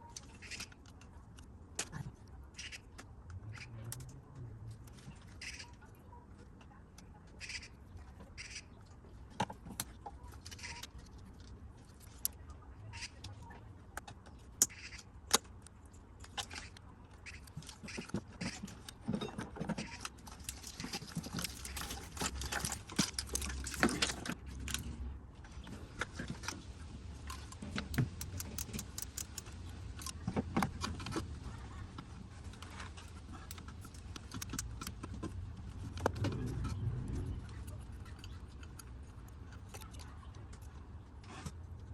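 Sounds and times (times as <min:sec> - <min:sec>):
low steady hum: 0:00.0 - 0:41.9.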